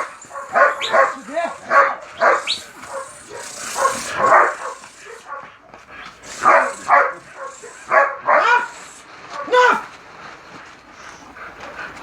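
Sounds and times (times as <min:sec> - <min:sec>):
dog barking: 0:00.0 - 0:09.9.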